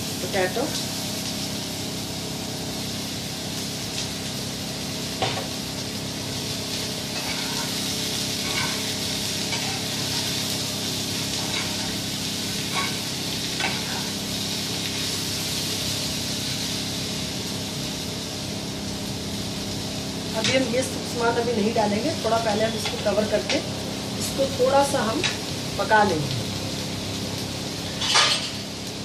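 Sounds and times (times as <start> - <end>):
potato and onion sizzling in oil: 0.0 - 29.0.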